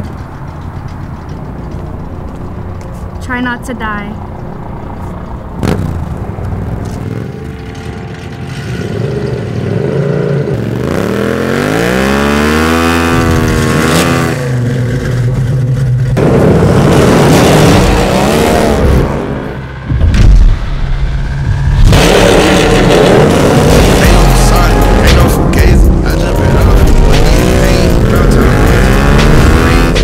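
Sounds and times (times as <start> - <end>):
car engine revving: 5.5 - 30.0
motorcycle engine revving: 5.5 - 30.0.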